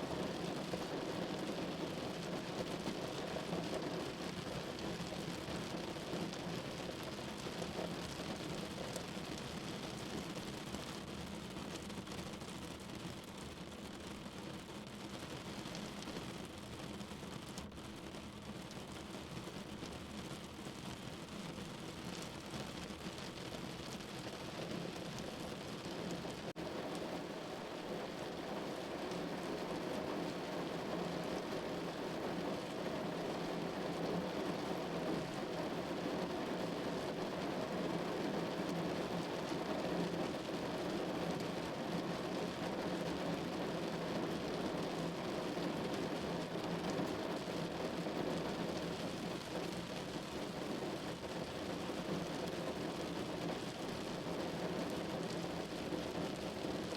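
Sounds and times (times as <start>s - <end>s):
rain falling: 0.0s - 10.9s, 11.8s - 56.9s.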